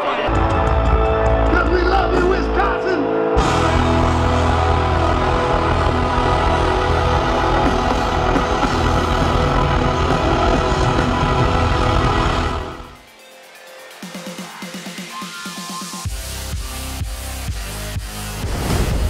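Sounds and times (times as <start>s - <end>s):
electric guitar: 0.0s - 17.9s
live rock band: 0.0s - 18.8s.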